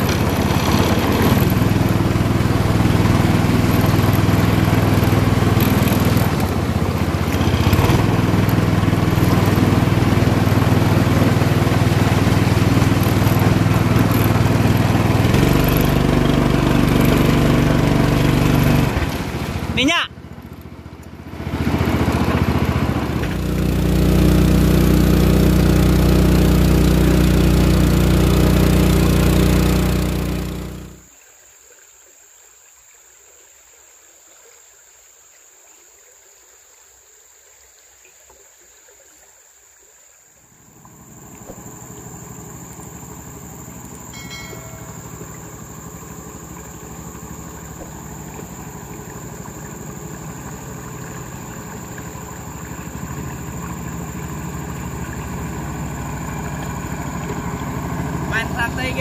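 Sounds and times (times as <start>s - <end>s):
motorboat engine running: 0.0s - 31.1s, 40.4s - 59.0s.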